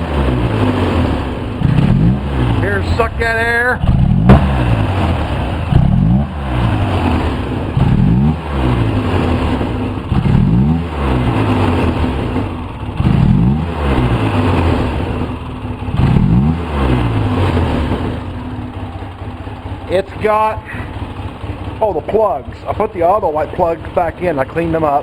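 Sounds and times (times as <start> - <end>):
engine revving in throttle blips: 0.0 - 25.0.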